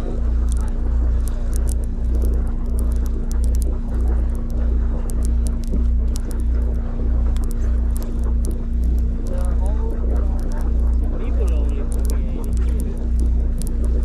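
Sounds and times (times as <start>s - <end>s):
boat engine rumbling: 0.0s - 14.0s
constant hum: 0.0s - 14.0s.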